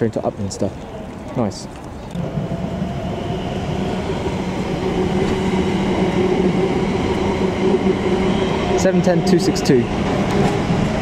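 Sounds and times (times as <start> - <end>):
electric train hum: 0.0 - 11.0
train rolling noise: 0.0 - 11.0.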